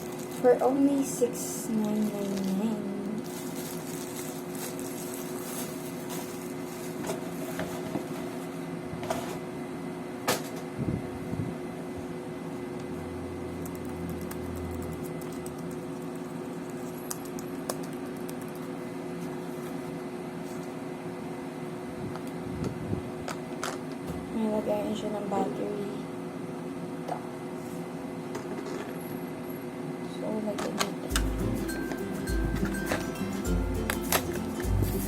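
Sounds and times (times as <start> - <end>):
fan humming: 0.0 - 35.0.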